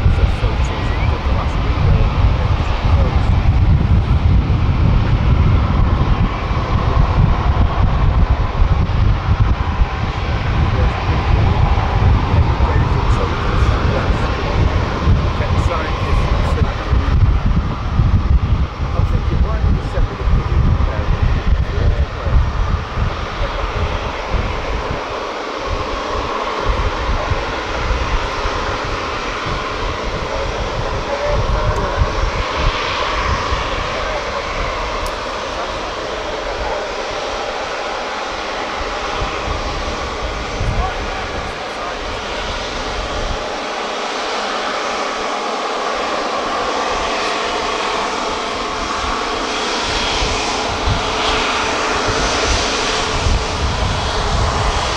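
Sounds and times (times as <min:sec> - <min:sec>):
faint jet whine: 0:00.0 - 0:54.9
jet engines rushing: 0:00.0 - 0:54.9
low rumble: 0:00.0 - 0:54.9.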